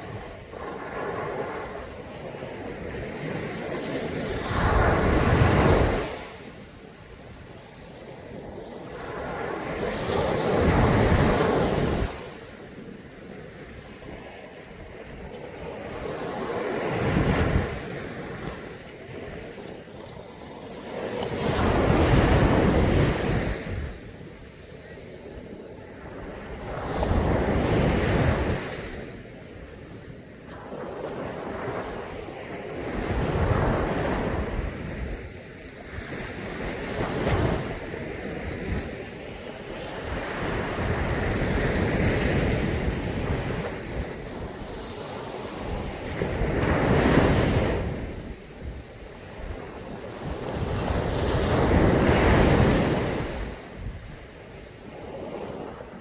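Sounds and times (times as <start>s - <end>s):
sea waves breaking on beach: 0.0s - 56.0s
wind rumbling on microphone: 0.0s - 56.0s.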